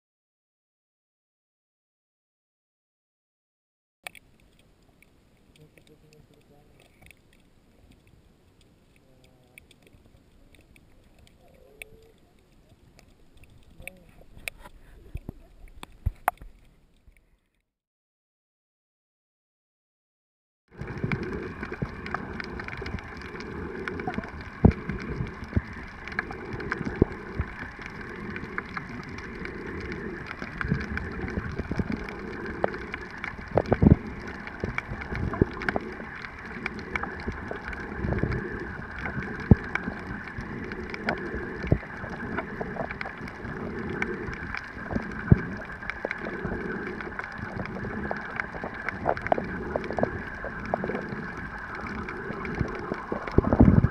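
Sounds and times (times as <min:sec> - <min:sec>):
muffled underwater water wash: 0:04.1 - 0:17.4, 0:20.7 - 0:53.9.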